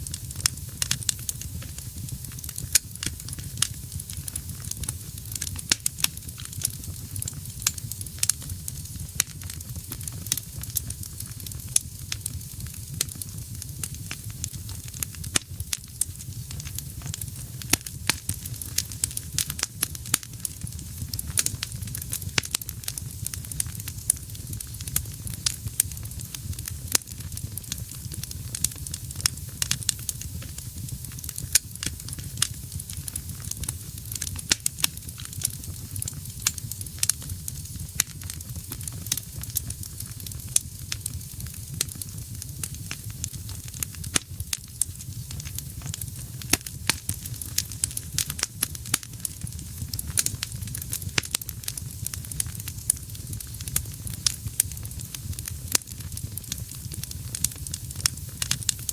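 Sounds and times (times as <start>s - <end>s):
low rumble of flames: 0.0s - 58.9s
wood crackling and popping: 0.0s - 58.9s.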